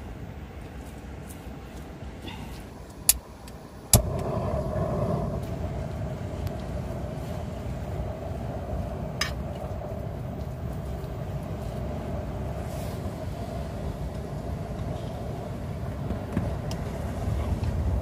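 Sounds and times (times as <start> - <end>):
low rumble with hum: 0.0 - 18.0.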